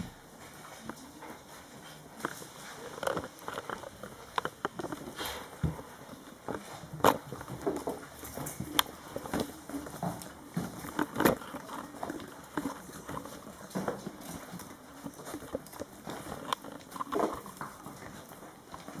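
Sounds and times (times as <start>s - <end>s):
puppy claws pattering on tile: 0.0s - 19.0s.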